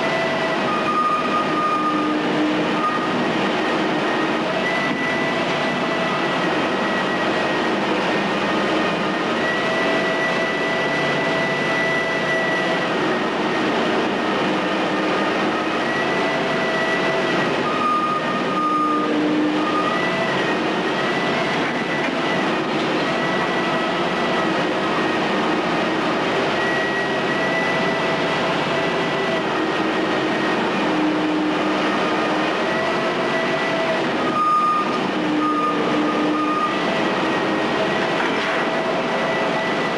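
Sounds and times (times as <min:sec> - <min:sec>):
crane engine running: 0:00.0 - 0:39.9
machinery whine: 0:00.0 - 0:39.9.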